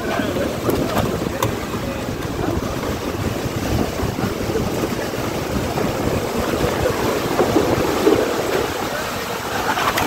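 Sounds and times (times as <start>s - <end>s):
heavy rain pouring: 0.0s - 10.0s
wind buffeting microphone: 0.0s - 10.0s.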